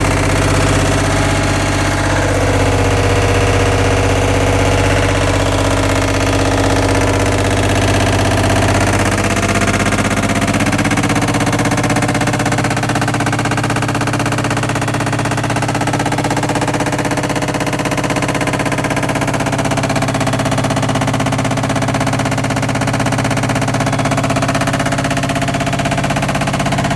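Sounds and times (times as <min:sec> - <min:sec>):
fast continuous rattle: 0:00.0 - 0:26.9
washer dryer motor and drum hum: 0:00.0 - 0:26.9.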